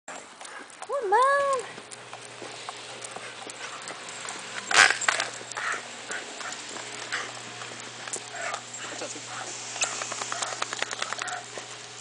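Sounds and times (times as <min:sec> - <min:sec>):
light clicks of dog steps and cart: 0:00.1 - 0:12.0.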